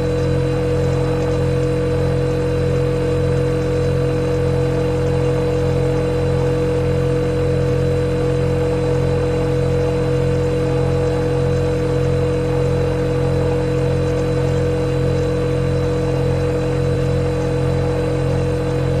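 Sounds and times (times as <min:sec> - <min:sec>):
refrigerator compressor humming: 0:00.0 - 0:19.0.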